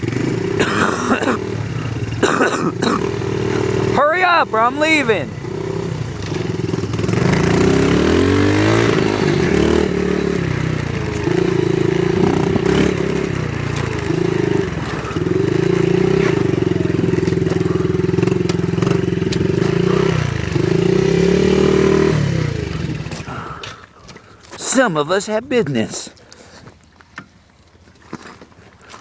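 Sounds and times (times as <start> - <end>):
off-road vehicle engine revving: 0.0 - 23.7.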